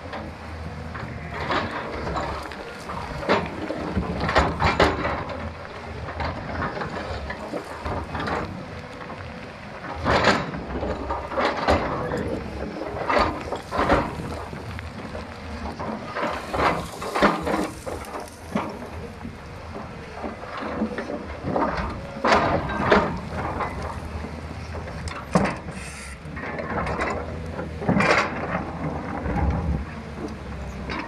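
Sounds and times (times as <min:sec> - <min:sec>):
excavator bucket clanks and scrapes: 0:00.0 - 0:31.0
excavator diesel engine running: 0:00.0 - 0:31.0.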